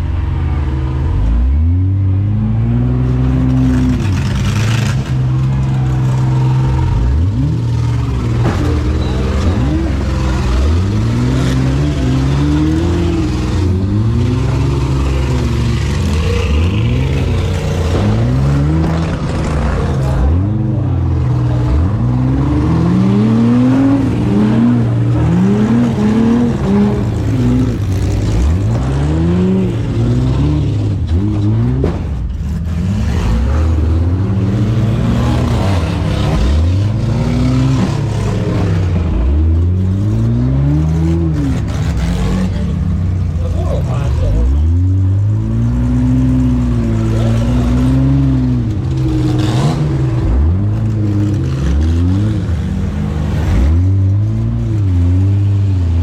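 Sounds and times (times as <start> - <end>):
engines revving: 0.0 - 56.0.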